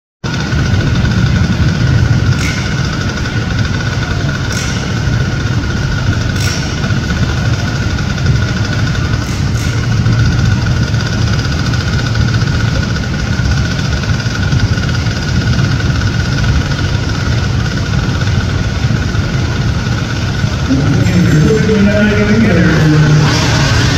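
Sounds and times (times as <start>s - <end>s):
small engines idling: 0.2s - 23.9s
thin steady whine: 0.2s - 23.9s.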